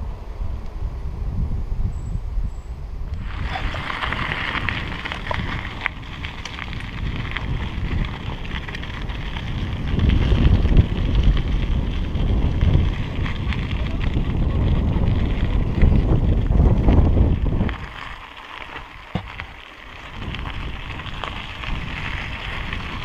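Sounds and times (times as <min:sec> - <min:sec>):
wind buffeting microphone: 0:00.0 - 0:23.0
tyres crackling on gravel: 0:03.1 - 0:23.0.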